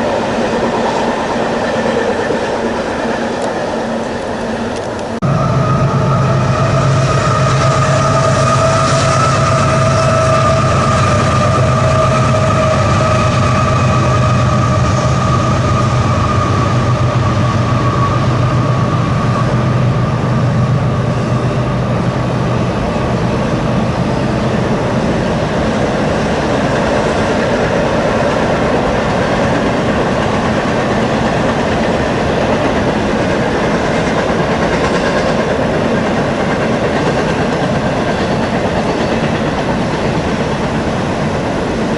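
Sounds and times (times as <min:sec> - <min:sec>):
railcars clattering over rails: 0:00.0 - 0:41.9.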